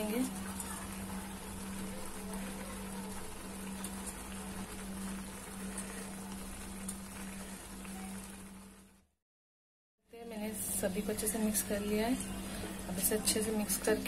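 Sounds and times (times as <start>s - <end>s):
noodles simmering and bubbling: 0.0s - 9.2s, 10.1s - 14.0s.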